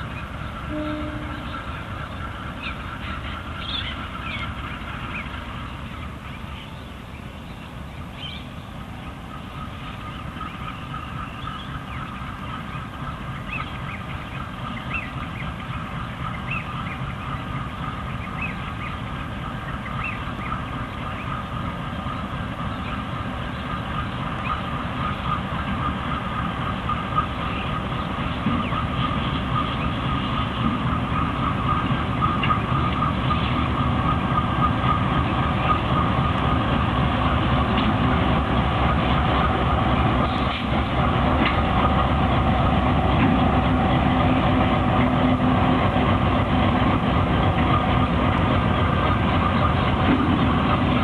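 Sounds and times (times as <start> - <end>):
locomotive engine rumble: 0.0 - 51.0.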